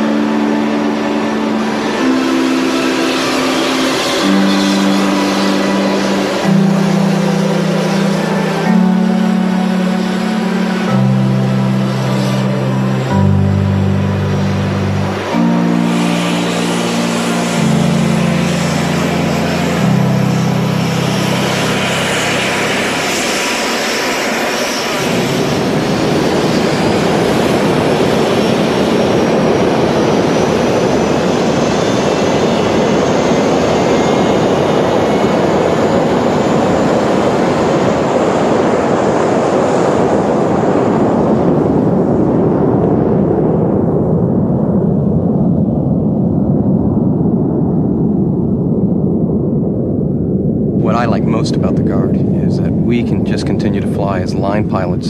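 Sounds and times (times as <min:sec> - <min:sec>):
background music with held chords: 0:00.0 - 0:44.9
high jet whine rising: 0:00.0 - 0:55.0
jet engines running loud: 0:00.0 - 0:55.0.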